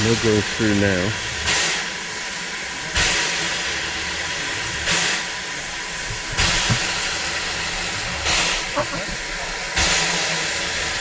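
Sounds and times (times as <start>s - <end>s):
gusts of steam: 0.0s - 11.0s
steam locomotive hissing: 0.0s - 11.0s.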